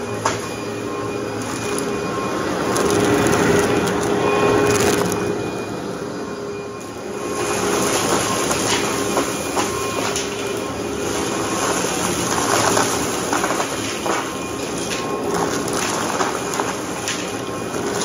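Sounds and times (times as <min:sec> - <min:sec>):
debris crackling in vacuum: 0:00.0 - 0:05.3, 0:07.2 - 0:18.0
upright vacuum cleaner running: 0:00.0 - 0:18.0.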